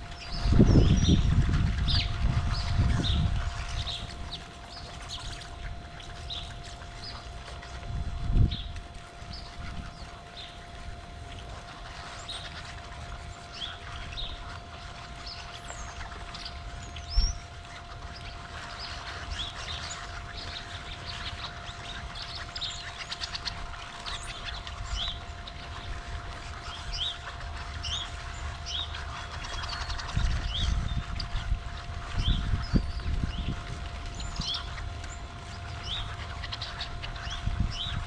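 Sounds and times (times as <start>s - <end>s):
birds chirping and calling: 0.0s - 38.0s
faint steady hum: 0.0s - 38.0s
steady low rumble: 0.0s - 38.0s.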